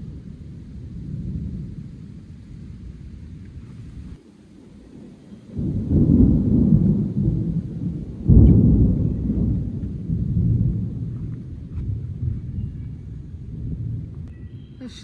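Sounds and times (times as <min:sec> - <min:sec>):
sharp thunderclap: 0:00.0 - 0:15.0
thunder rumbling: 0:00.0 - 0:15.0.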